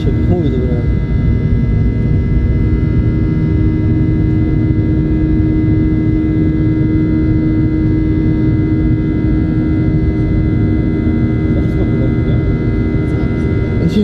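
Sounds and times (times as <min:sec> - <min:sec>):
jet engine drone in cabin: 0:00.0 - 0:14.0.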